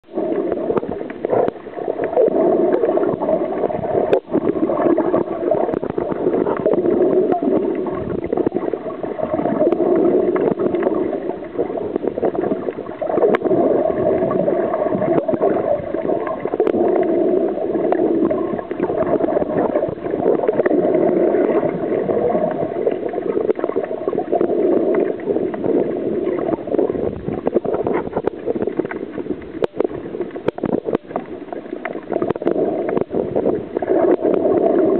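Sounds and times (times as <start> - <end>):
muffled underwater rush: 0.0 - 34.9
small clicks and crackles: 0.1 - 34.9.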